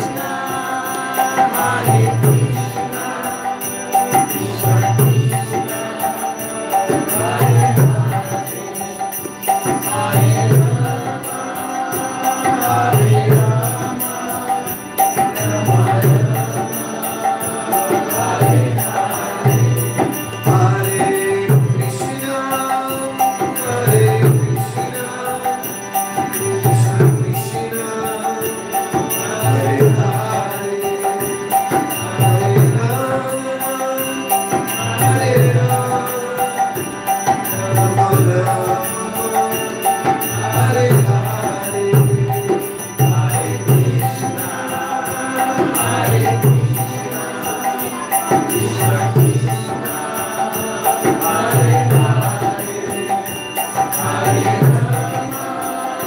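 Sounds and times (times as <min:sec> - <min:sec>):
hand drum beating a rhythm: 0:00.0 - 0:55.6
harmonium chords: 0:00.0 - 0:56.0
voices singing a chant: 0:00.0 - 0:56.0.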